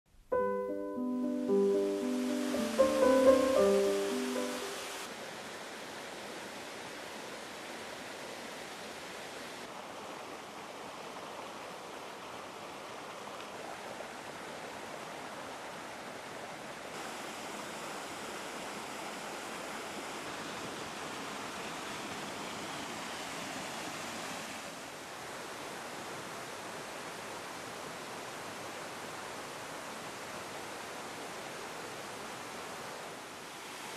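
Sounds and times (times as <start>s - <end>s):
waterfall rushing and splashing: 1.2s - 33.9s.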